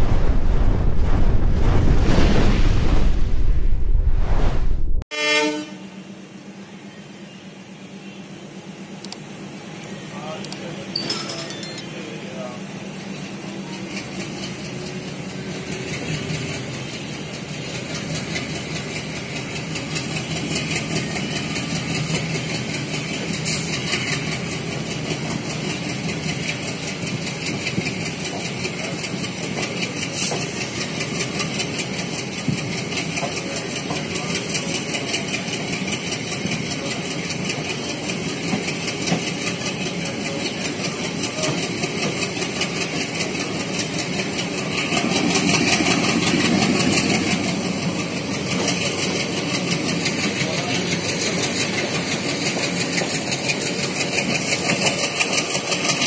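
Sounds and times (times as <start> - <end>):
train running noise: 5.2 - 56.0.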